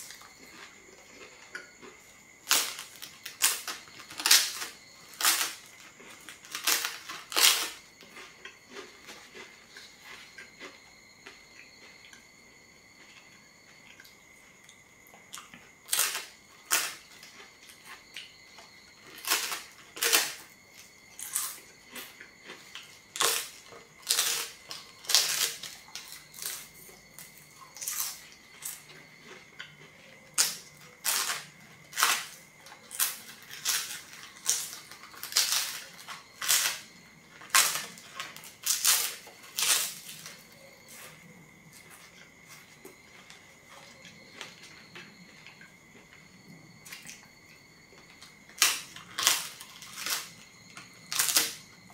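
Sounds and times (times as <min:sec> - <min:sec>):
crunching bites of crisp flatbread: 0:00.0 - 0:12.2, 0:13.0 - 0:14.2, 0:15.0 - 0:46.2, 0:46.8 - 0:51.9
quiet chewing: 0:00.0 - 0:12.3, 0:12.9 - 0:51.5.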